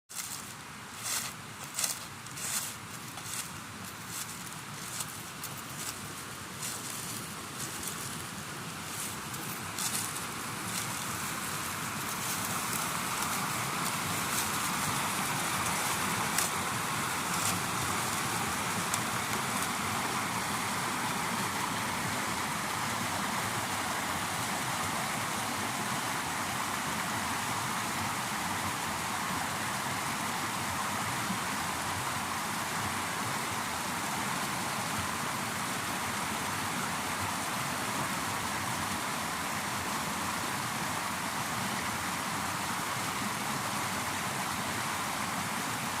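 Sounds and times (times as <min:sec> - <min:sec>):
water rushing over waterfalls: 0:00.1 - 0:46.0.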